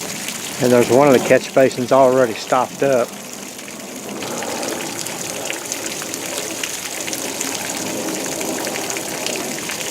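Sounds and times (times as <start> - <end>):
water drops pattering: 0.0 - 9.9
water trickling: 0.0 - 9.9.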